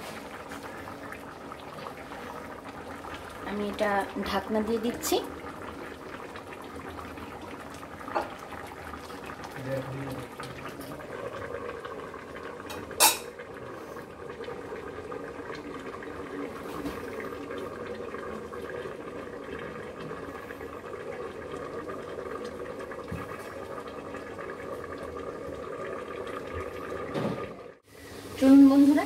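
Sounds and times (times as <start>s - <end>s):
curry simmering and hissing: 0.0s - 29.0s.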